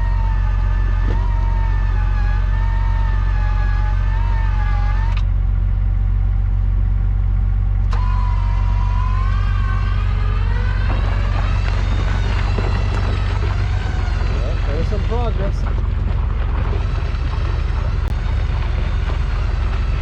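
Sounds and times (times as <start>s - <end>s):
electric winch motor whining: 0.0s - 5.4s, 7.8s - 20.0s
engines idling: 0.0s - 20.0s.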